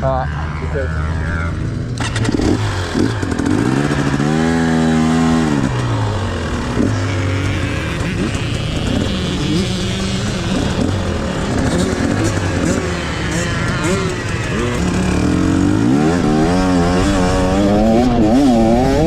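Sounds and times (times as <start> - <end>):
dirt bike engine accelerating: 0.0 - 19.0.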